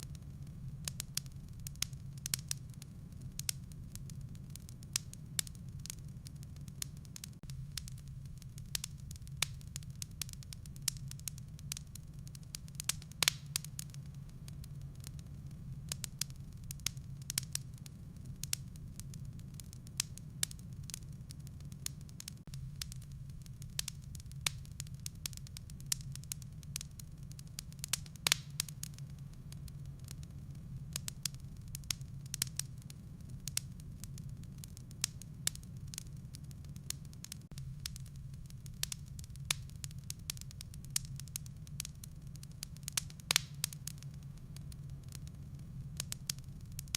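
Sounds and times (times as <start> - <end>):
fire low rumble: 0.0 - 46.9
firewood popping and snapping: 0.8 - 46.9.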